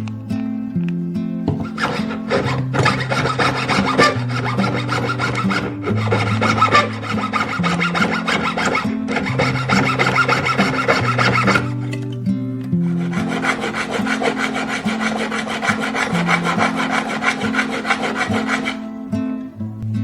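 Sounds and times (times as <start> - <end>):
hand tool rasping on metal: 1.5 - 12.0, 12.8 - 18.9.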